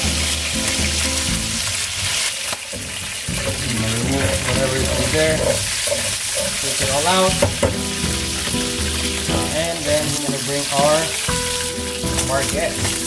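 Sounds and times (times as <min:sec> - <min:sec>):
chicken sizzling in hot oil: 0:00.0 - 0:13.0
utensil stirring in pan: 0:00.0 - 0:13.0.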